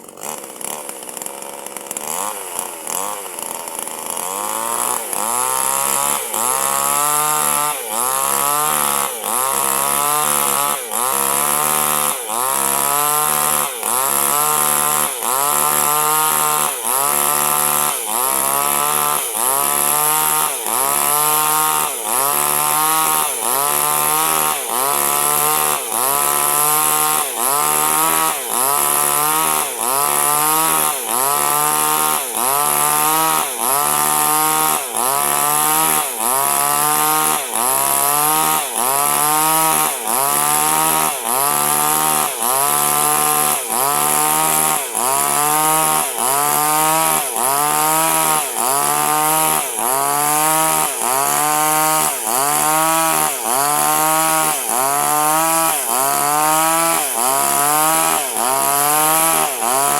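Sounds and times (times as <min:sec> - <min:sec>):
chainsaw engine revving: 0:00.0 - 0:59.9.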